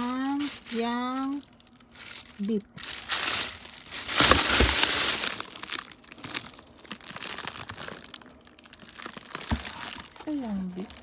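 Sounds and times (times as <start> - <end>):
food packaging crinkling: 0.0 - 11.0.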